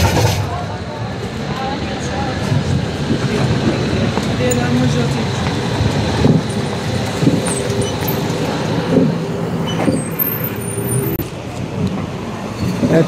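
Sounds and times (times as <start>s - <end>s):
city street noise: 0.0s - 13.0s
electric tram humming on rails: 0.0s - 13.0s.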